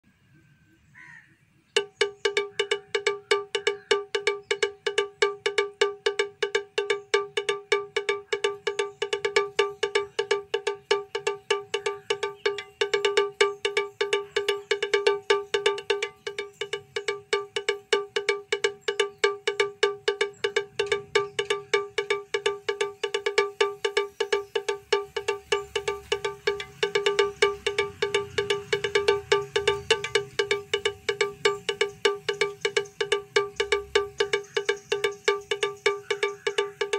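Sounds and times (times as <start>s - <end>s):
repeated pitched note music: 1.8s - 36.9s.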